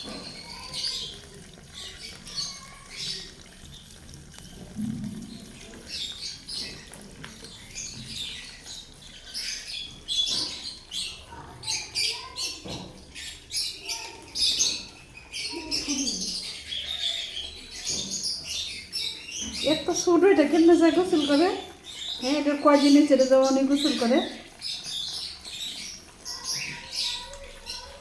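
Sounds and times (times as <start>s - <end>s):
light water splashing: 0.0s - 28.0s
lovebirds chirping: 4.8s - 28.0s.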